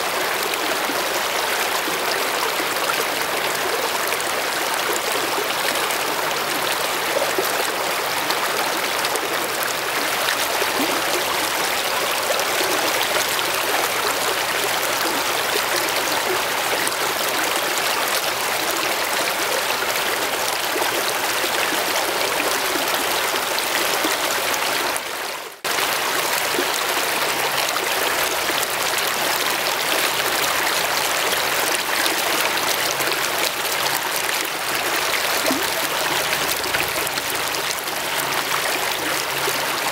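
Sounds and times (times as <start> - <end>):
creek running over rocks: 0.0 - 39.9.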